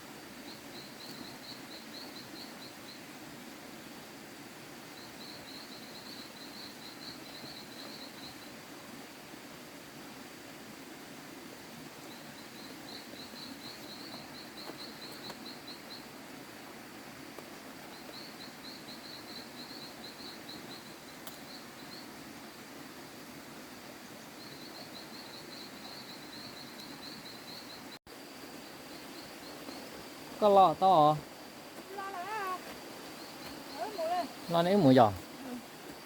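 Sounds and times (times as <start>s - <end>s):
steady background hiss: 0.0s - 36.0s.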